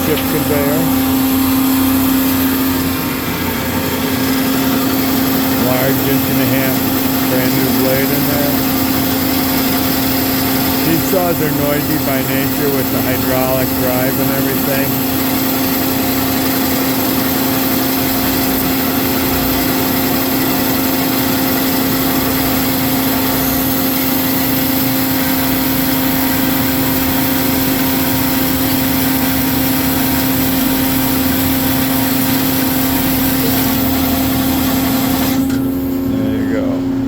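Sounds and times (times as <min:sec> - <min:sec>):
bandsaw cutting steel tube: 0:00.0 - 0:35.9.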